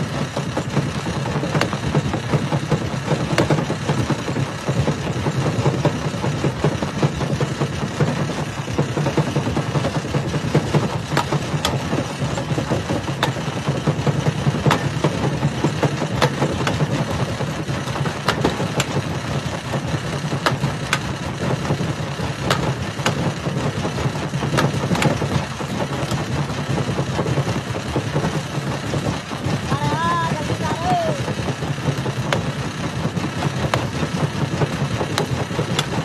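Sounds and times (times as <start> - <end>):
rock crusher droning: 0.0 - 36.0.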